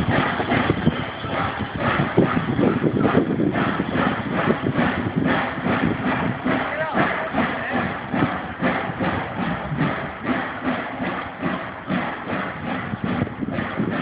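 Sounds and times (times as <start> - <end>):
mechanical clatter: 0.0 - 14.0
steam train rhythmic knocking: 0.0 - 14.0.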